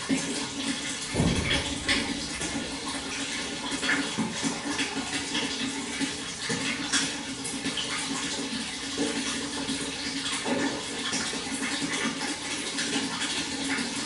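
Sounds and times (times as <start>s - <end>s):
water flowing and splashing: 0.0s - 14.0s.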